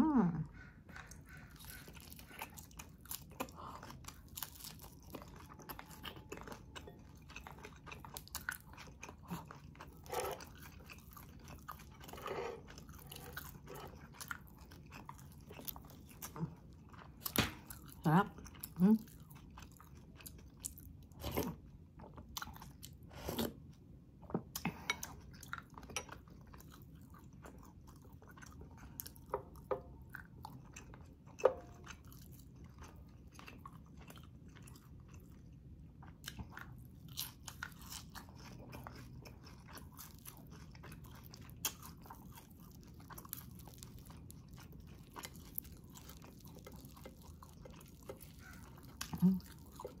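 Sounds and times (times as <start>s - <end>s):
chewing and crunching: 0.4s - 50.0s.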